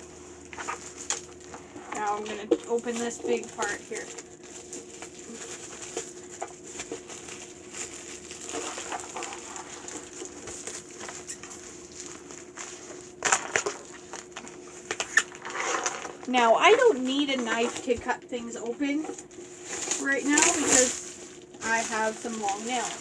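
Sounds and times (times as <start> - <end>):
packaging tearing and rustling: 0.4 - 17.9, 19.1 - 23.0.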